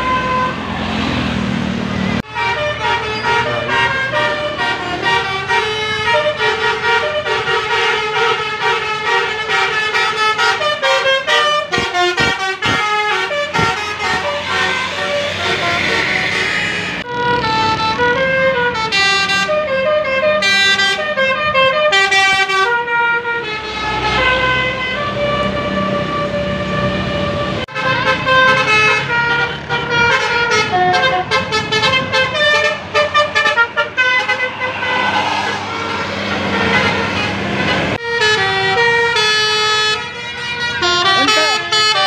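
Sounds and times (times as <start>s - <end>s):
bus horns playing melodies: 0.0s - 1.2s, 2.1s - 42.0s
bus engines running: 0.0s - 42.0s.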